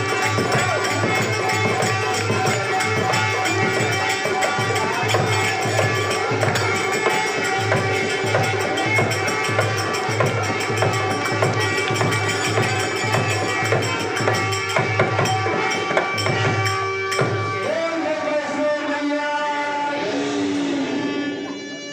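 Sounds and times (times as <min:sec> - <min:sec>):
steady drum beat: 0:00.0 - 0:17.9
jingling hand percussion: 0:00.0 - 0:19.3.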